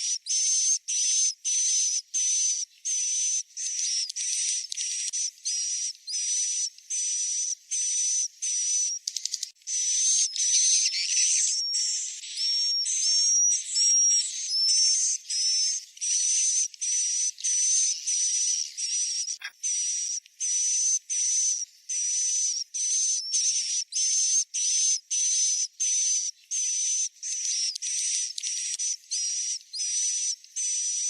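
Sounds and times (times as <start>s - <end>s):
bird chirps: 0.0s - 31.0s.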